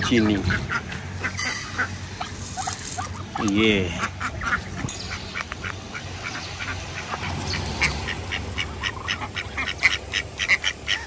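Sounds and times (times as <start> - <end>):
ducks calling: 0.0 - 11.0
ducks pecking at a dish: 0.0 - 11.0.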